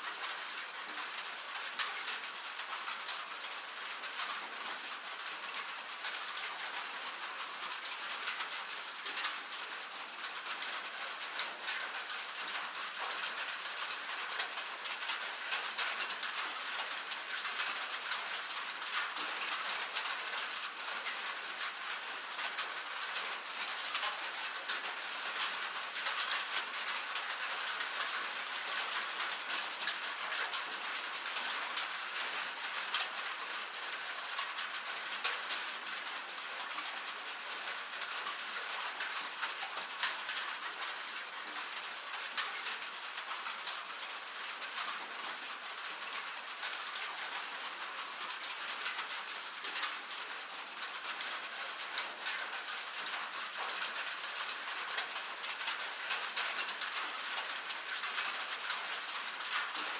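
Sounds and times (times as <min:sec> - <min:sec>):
rain drumming on a metal roof: 0:00.0 - 0:59.9.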